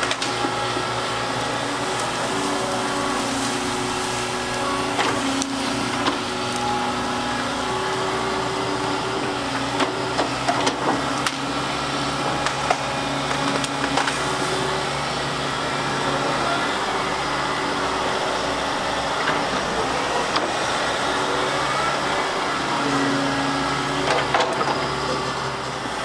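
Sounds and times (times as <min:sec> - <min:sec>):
diesel engine running: 0:00.0 - 0:26.0
hydraulics whining: 0:00.0 - 0:26.0.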